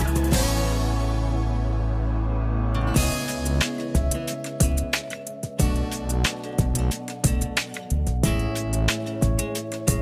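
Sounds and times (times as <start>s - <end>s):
background music with plucked strings: 0.0s - 10.0s.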